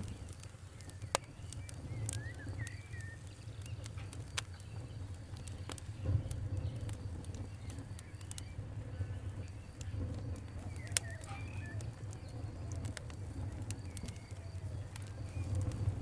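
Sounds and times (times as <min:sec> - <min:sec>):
bird chirping: 0:00.0 - 0:16.0
wood fire crackling: 0:00.0 - 0:16.0.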